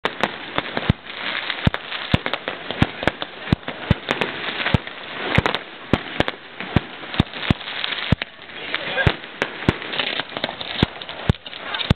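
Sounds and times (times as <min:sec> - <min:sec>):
constant hiss: 0:00.0 - 0:11.9
fireworks shells bursting: 0:00.0 - 0:11.9.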